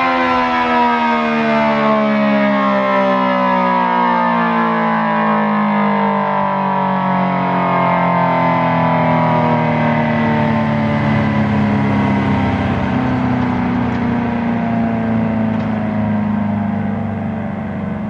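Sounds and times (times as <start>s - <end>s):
warning siren winding down: 0.0s - 18.0s.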